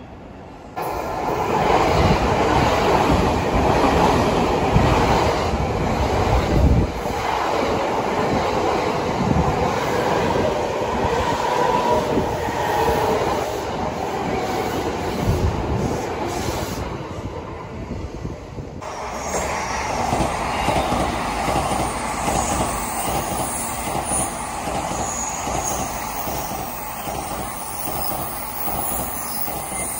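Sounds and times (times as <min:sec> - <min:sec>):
train rumbling: 0:00.0 - 0:29.9.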